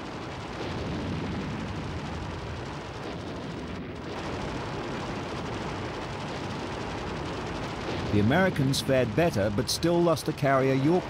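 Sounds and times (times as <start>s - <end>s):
explosions and gunfire: 0.0s - 11.0s.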